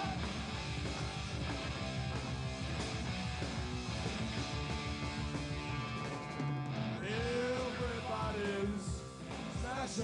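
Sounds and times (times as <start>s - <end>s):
bass guitar: 0.0s - 10.0s
steady drum beat: 0.0s - 10.0s
strummed electric guitar: 0.0s - 10.0s.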